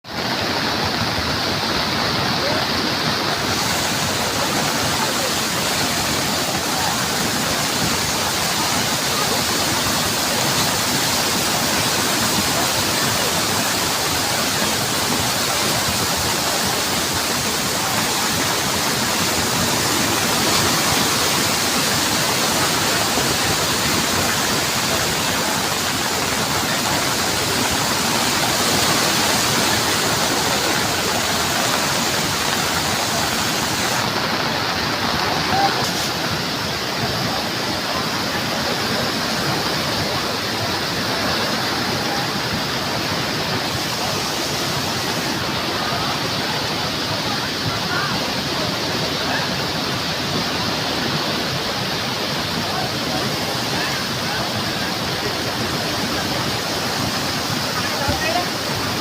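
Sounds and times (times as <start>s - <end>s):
flooded stream rushing: 0.0s - 59.0s.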